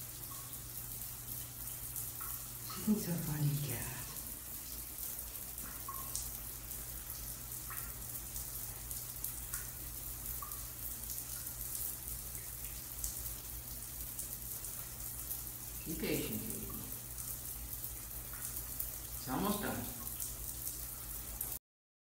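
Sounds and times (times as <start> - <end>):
shower water on tile: 0.0 - 21.6
water drips plinking: 0.0 - 21.6.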